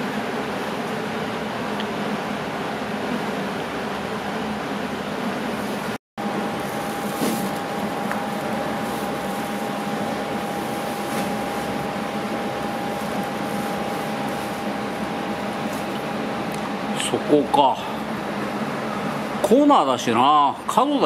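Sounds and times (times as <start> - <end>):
machine running with hum and whine: 0.0 - 21.0.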